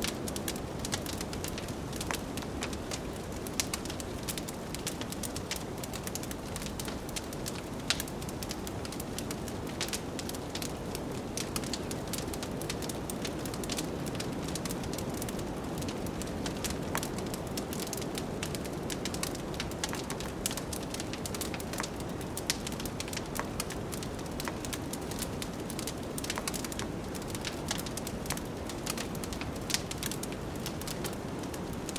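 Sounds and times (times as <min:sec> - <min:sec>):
wood fire crackling and popping: 0:00.0 - 0:31.9.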